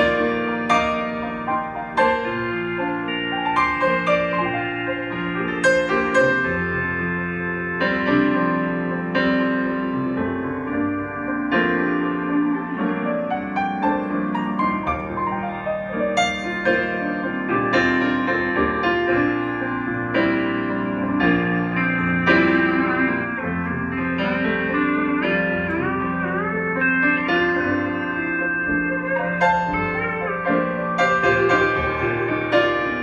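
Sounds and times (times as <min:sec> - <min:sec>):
electric piano chords: 0:00.0 - 0:33.0
slide guitar gliding: 0:00.0 - 0:33.0.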